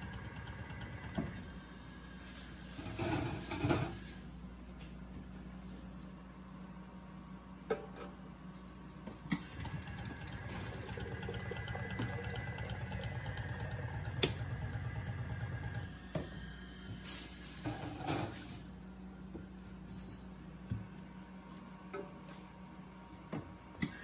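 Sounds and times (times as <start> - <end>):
filling machine pulsing hum: 0.0 - 24.0.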